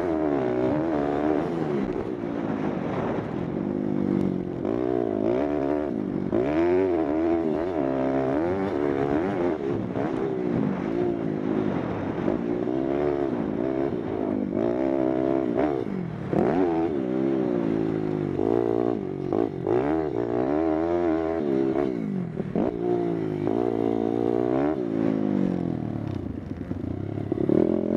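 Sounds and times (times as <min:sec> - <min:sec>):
motorbike engine revving: 0:00.0 - 0:26.2, 0:26.9 - 0:27.9.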